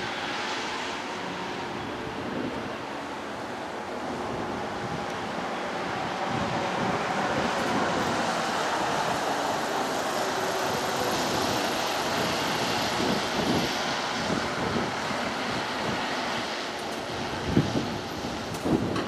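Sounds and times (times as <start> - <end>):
bus driving past: 0.0 - 19.0
road traffic noise: 0.0 - 19.0.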